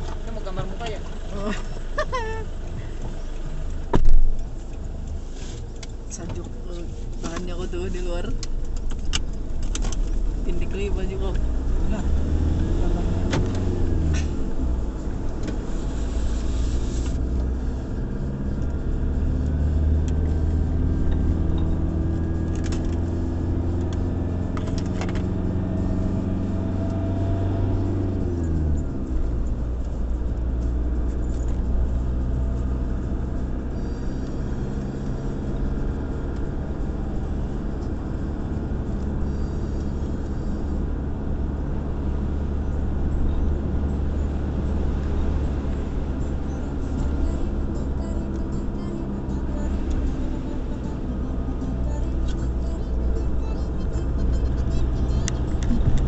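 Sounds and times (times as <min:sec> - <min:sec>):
road and tyre rumble: 0:00.0 - 0:56.0
engine drone: 0:08.0 - 0:56.0.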